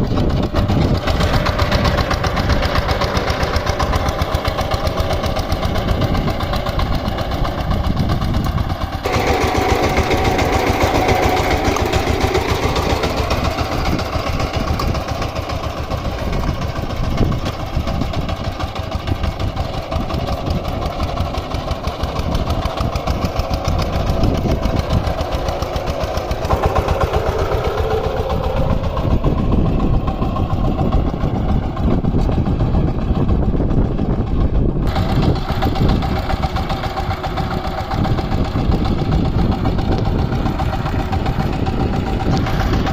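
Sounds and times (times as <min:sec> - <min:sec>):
power tiller diesel engine running: 0:00.0 - 0:42.9.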